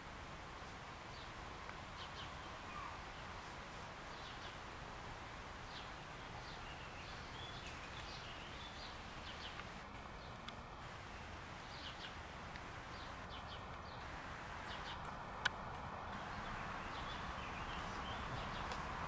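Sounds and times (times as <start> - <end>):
low background hiss: 0.0 - 19.0.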